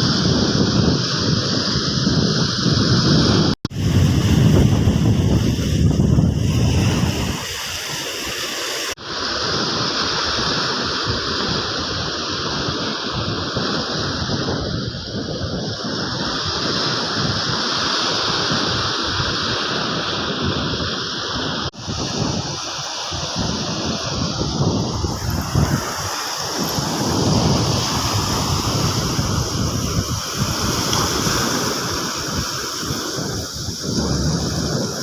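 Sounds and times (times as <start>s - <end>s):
surf washing on beach: 0.0s - 35.0s
wind rumbling on microphone: 0.0s - 35.0s.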